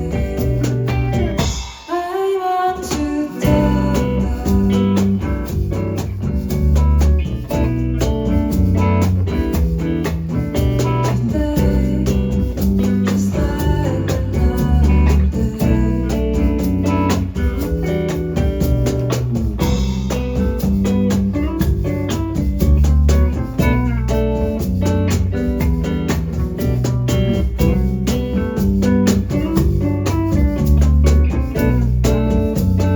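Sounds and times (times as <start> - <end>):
acoustic guitar: 0.0 - 1.6, 2.7 - 32.9
bass guitar: 0.0 - 1.8, 2.8 - 32.9
drum kit beat: 0.0 - 32.9.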